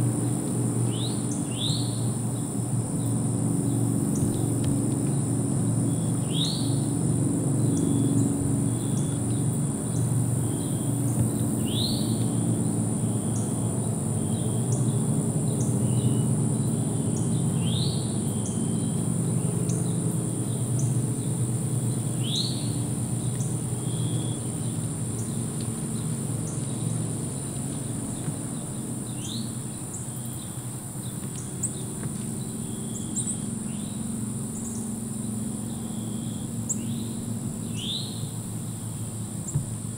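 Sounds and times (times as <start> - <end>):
high-pitched insect drone: 0.2 - 39.9.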